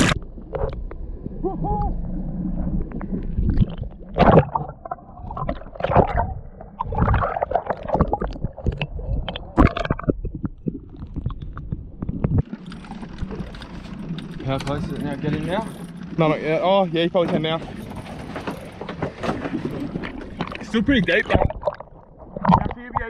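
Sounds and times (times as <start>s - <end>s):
underwater knocks and clicks: 0.0s - 1.4s, 2.8s - 16.2s, 17.0s - 23.0s
underwater gurgling and bubbling: 0.0s - 16.3s, 19.6s - 23.0s.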